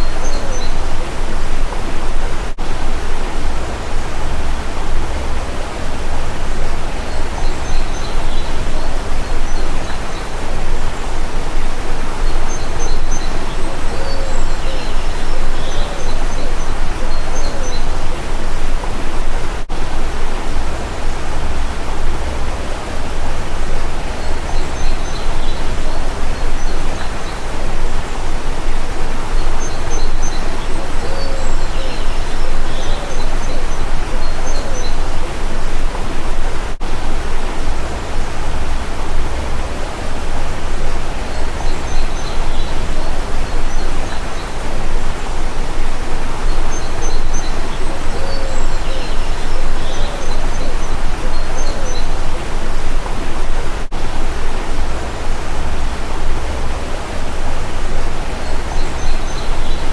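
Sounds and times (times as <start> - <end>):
small birds chirping: 0.0 - 59.9
stream water rushing: 0.0 - 59.9.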